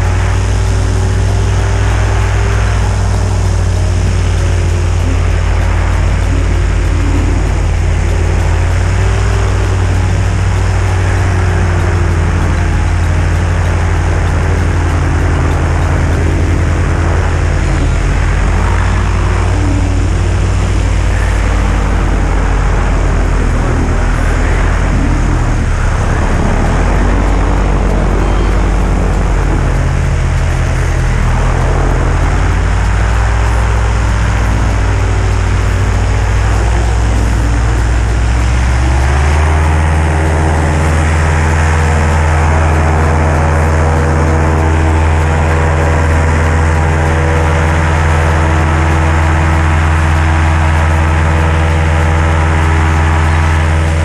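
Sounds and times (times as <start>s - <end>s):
paramotor engine running: 0.0s - 54.0s.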